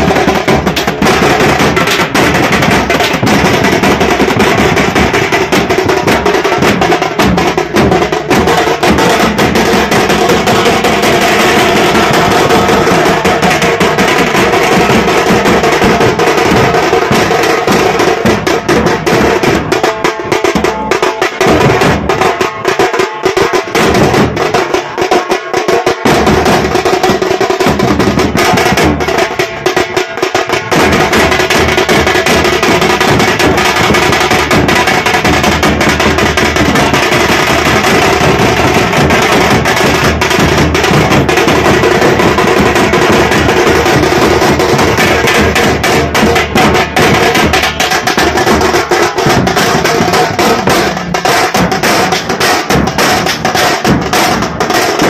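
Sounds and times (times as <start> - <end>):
street drum band playing: 0.0 - 55.0.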